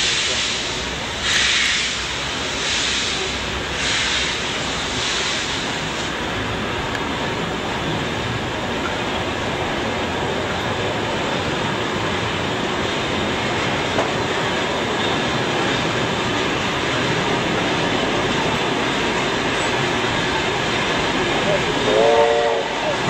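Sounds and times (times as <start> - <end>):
train wheels rolling on rail: 0.0 - 23.0.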